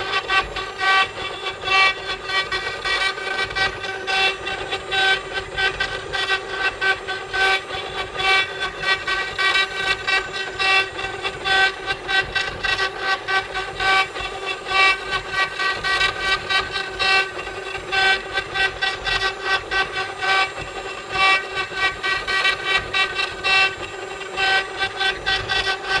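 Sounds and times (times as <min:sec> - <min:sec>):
carving machine motor whine: 0:00.0 - 0:26.0.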